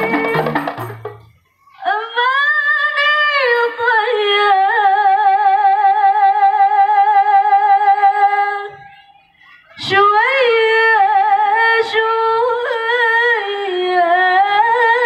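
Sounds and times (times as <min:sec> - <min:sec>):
woman singing into a microphone: 0:00.0 - 0:00.8, 0:01.8 - 0:08.9, 0:09.8 - 0:15.0.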